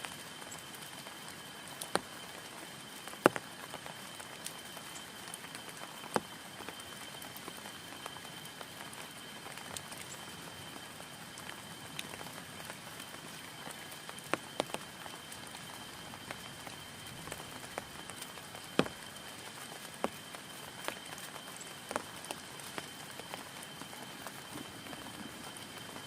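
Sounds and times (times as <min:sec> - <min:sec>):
rain pattering on a tent: 0:00.0 - 0:26.0.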